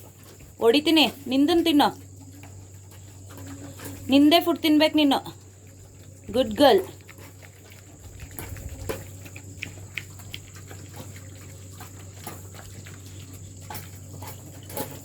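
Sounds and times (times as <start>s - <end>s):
dogs eating wet food: 0.0s - 15.0s.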